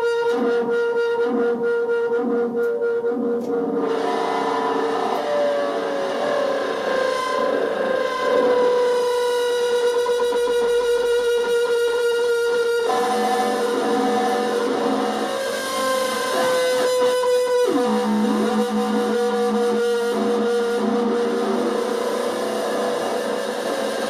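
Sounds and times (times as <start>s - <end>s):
droning analog synth tones: 0.0s - 24.0s.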